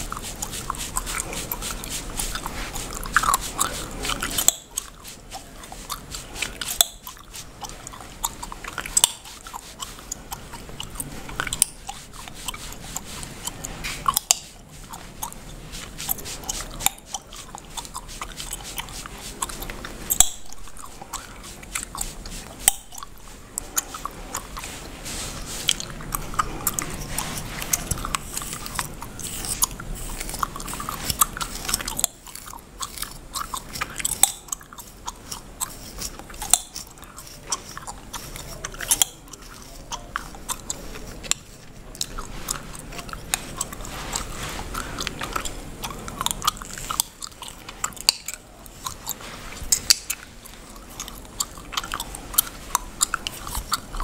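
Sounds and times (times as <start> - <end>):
fingers scratching through hair: 0.0 - 54.0.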